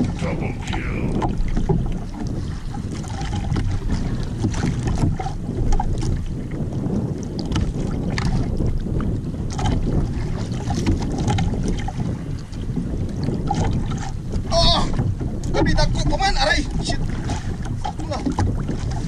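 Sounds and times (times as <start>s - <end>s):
splashes and knocks: 0.0s - 6.6s, 7.2s - 8.8s, 9.5s - 12.5s, 13.2s - 19.0s
water slapping boat hull: 0.0s - 19.0s
wind rumbling on microphone: 0.0s - 19.0s.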